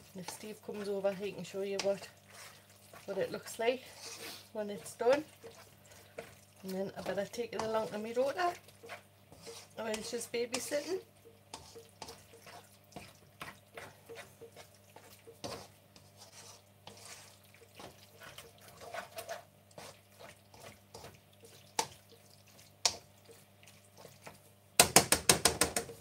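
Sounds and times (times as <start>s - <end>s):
utensil scraping metal pot: 0.0s - 22.0s.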